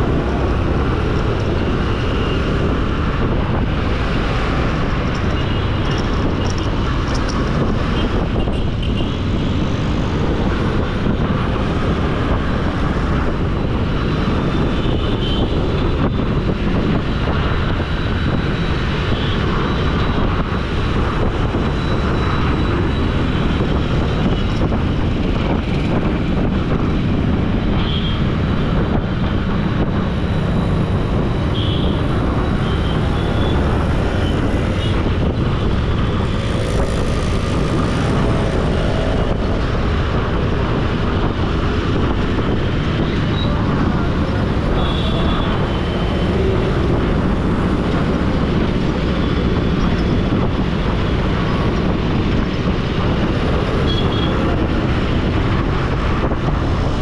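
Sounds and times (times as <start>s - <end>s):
vehicle road noise: 0.0s - 57.0s.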